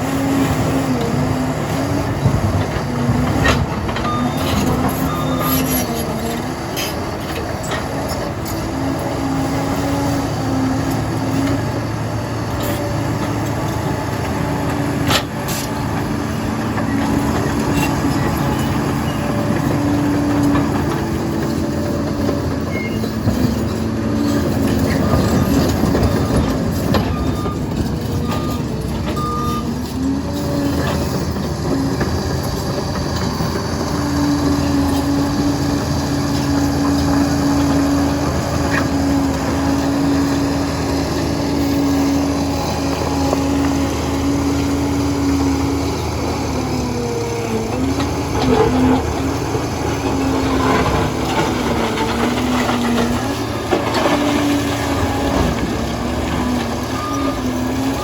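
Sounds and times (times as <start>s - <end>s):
diesel engine under load: 0.0s - 58.0s
track and machinery noise: 0.0s - 58.0s.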